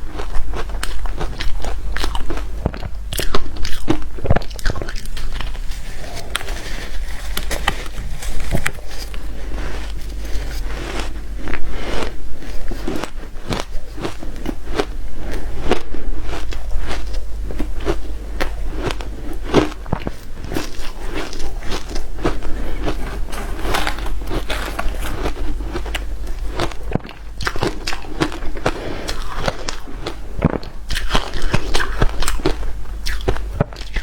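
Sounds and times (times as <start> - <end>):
ice crunching between teeth: 0.0 - 34.0.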